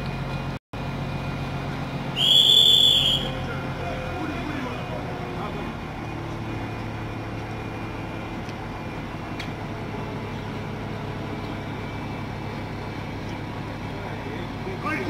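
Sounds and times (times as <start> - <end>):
train engine idling: 0.0 - 15.0.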